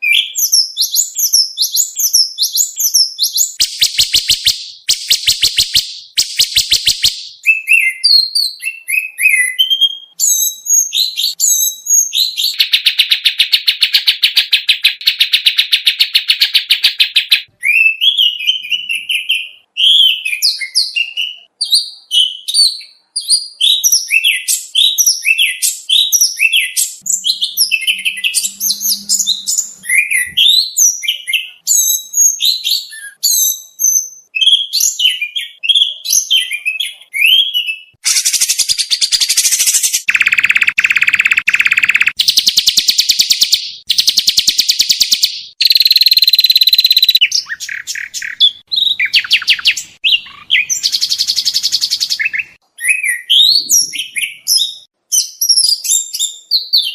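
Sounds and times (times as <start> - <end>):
songbird chirps and trills: 0.0 - 56.9.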